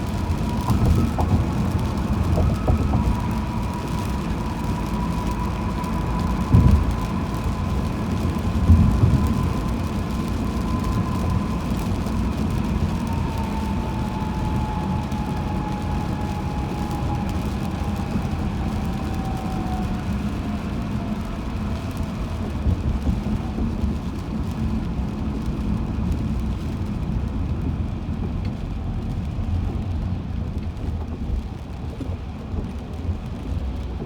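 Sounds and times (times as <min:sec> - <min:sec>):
car road noise rumble: 0:00.0 - 0:34.0.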